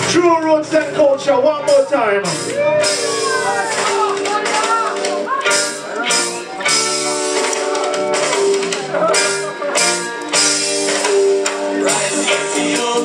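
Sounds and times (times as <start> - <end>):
reggae music over sound system: 1.6 - 13.0.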